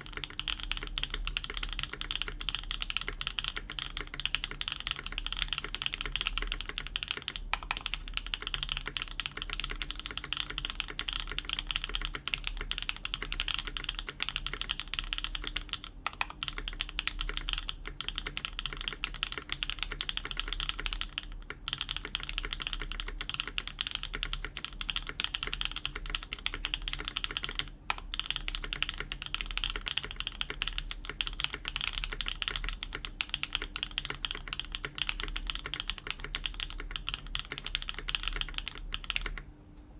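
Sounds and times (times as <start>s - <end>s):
mechanical keyboard typing: 0.0s - 39.4s.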